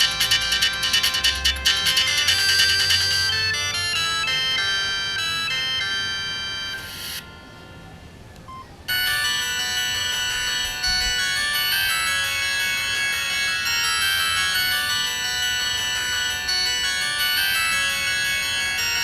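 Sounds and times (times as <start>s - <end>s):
polyphonic phone ringtones: 0.0s - 19.0s.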